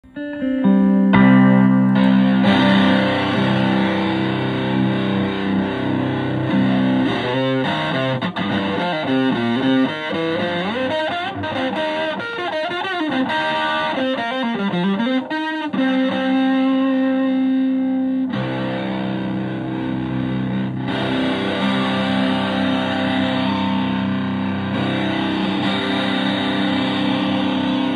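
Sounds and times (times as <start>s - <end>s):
fuzz electric guitar: 0.0s - 27.9s.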